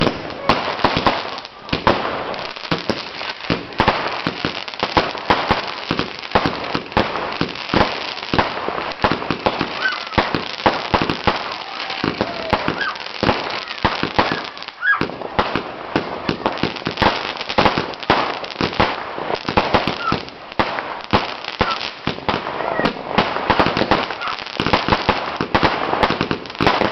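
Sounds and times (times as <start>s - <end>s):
fireworks bangs and crackles: 0.0s - 26.9s
fireworks whistles: 0.0s - 26.9s.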